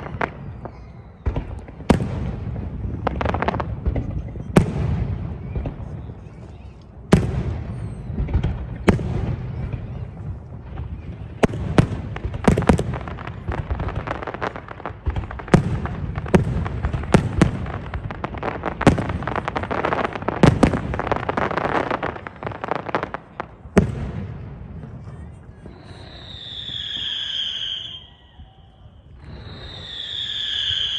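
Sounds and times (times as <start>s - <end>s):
fireworks bangs: 0.0s - 30.9s
fireworks crackling and rumble: 0.0s - 30.9s.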